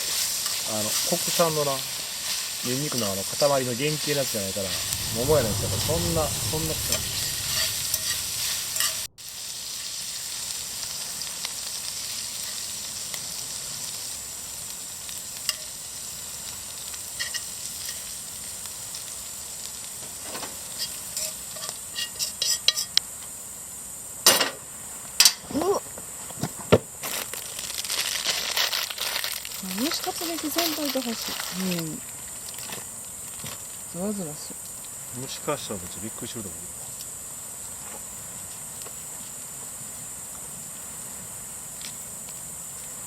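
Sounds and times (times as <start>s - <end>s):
shrimp sizzling in oil: 0.0s - 25.8s, 26.9s - 43.0s.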